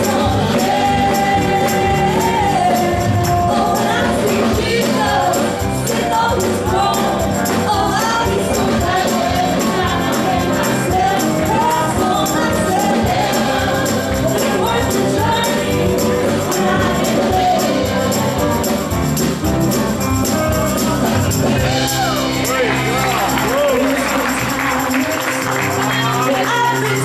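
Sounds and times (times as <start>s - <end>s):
gospel band playing: 0.0s - 27.0s
percussion steady beat: 0.0s - 27.0s
voices singing together: 0.0s - 27.0s.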